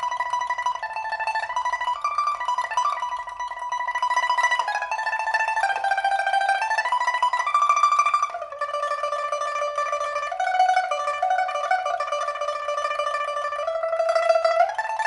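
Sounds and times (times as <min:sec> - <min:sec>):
pipa tremolo melody: 0:00.0 - 0:15.0.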